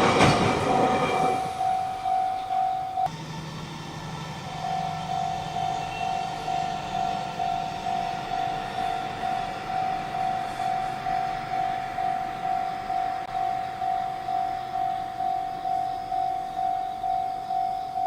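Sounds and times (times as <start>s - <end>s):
level crossing warning bell: 0.0s - 18.0s.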